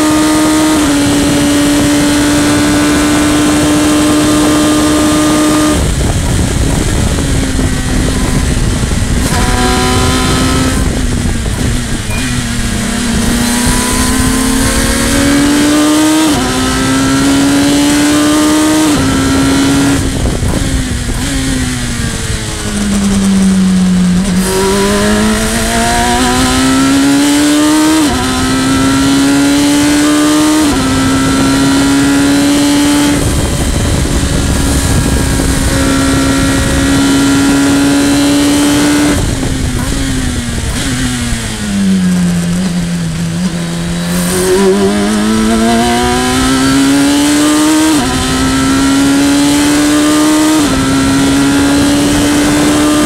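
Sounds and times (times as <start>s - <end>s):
race car engine revving: 0.0s - 53.0s
wind rushing: 0.0s - 53.0s.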